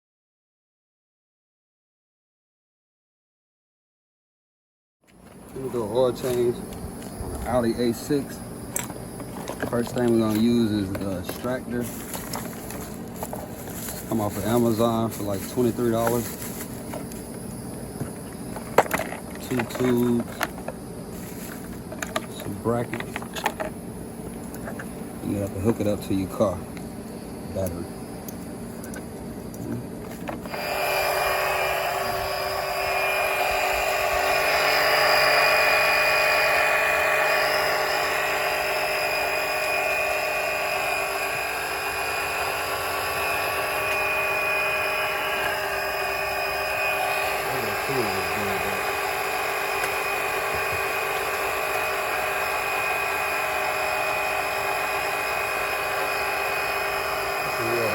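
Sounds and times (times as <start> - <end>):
electric pump whining: 5.1 - 57.9.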